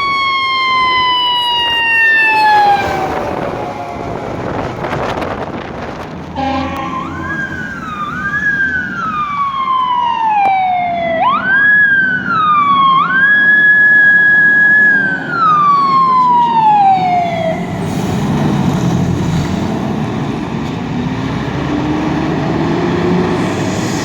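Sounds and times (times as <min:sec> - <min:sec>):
fire truck siren wailing: 0:00.0 - 0:24.0
low vehicle rumble: 0:01.8 - 0:24.0.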